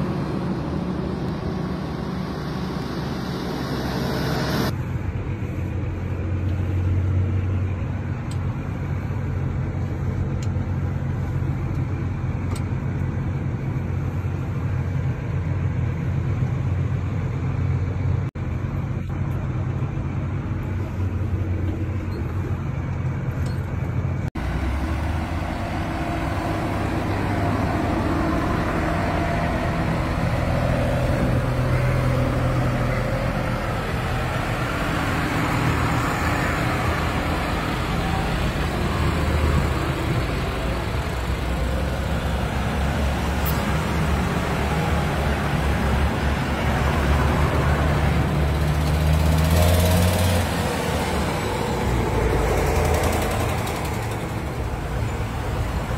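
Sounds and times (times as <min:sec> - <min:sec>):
tractor engine running: 0:00.0 - 0:55.9
tractors driving past: 0:00.0 - 0:55.9.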